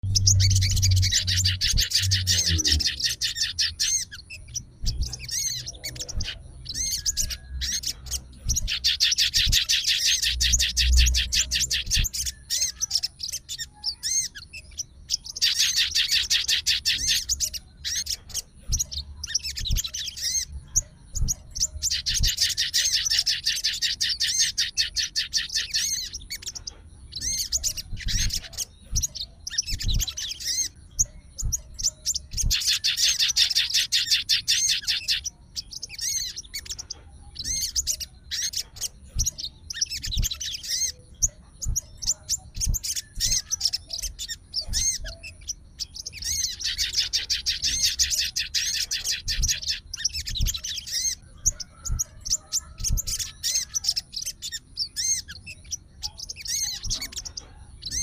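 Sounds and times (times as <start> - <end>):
songbird chattering song: 0.0 - 58.0.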